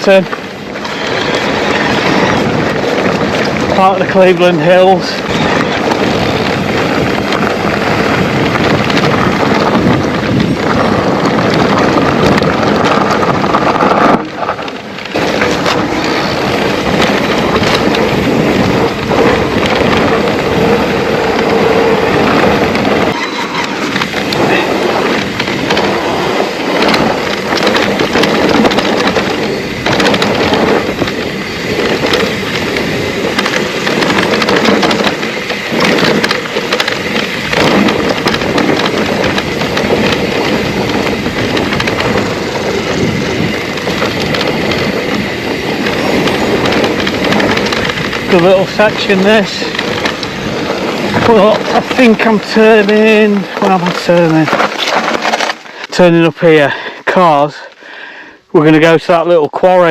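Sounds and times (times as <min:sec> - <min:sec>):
bike rattling over bumps: 0:00.0 - 0:59.9
wind and tyre noise: 0:00.0 - 0:59.9.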